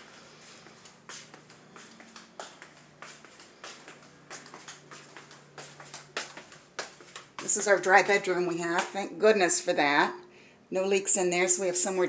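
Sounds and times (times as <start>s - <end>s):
footsteps walking: 0.0s - 9.8s.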